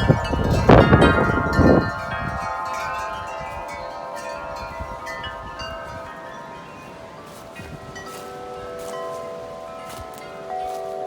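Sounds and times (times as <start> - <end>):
metal wind chimes ringing: 0.0 - 11.0
wind gust on microphone: 0.0 - 11.0.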